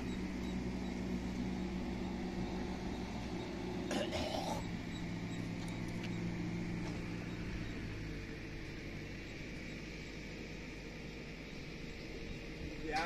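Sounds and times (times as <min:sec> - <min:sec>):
outdoor noise: 0:00.0 - 0:13.0
vehicle engine humming: 0:00.0 - 0:13.0.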